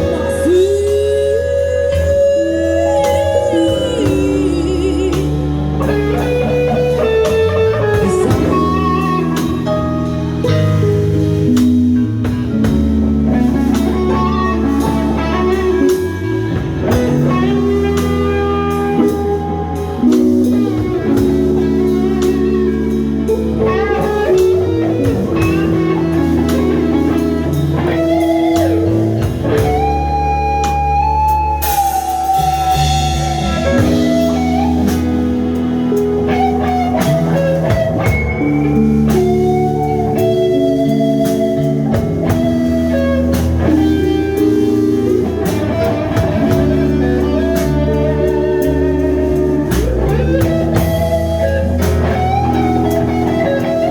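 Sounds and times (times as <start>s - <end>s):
lead guitar melody: 0.0s - 53.9s
live band playing blues: 0.0s - 53.9s.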